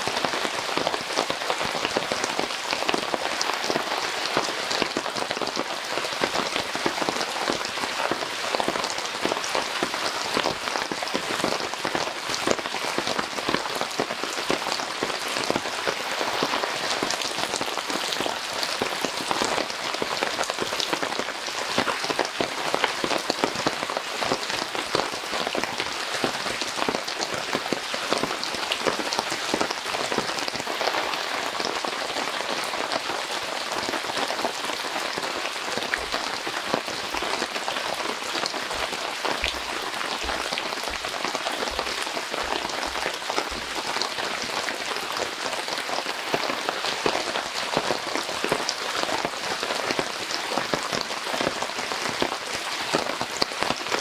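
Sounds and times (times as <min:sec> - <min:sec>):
heavy rain falling: 0:00.0 - 0:54.0
raindrops striking a surface: 0:00.0 - 0:54.0.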